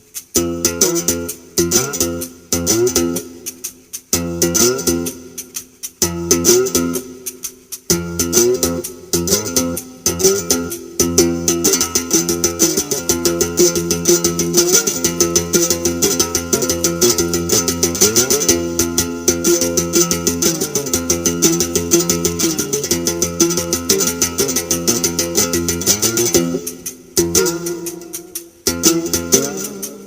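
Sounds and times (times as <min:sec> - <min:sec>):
light percussive ticks: 0:00.0 - 0:30.0
plucked string music: 0:00.0 - 0:30.0.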